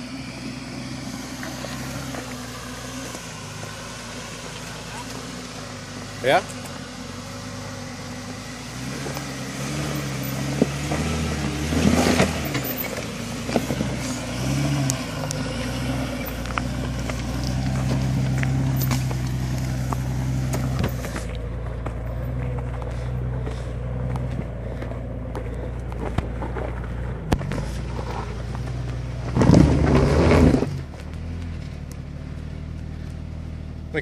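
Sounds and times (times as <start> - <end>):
car engine pulling at low revs: 0.0 - 34.0
gravel crunching under tyres: 0.0 - 34.0.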